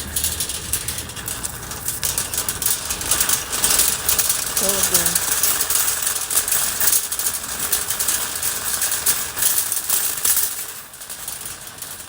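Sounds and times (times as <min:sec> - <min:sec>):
small hard parts rattling: 0:00.0 - 0:12.0.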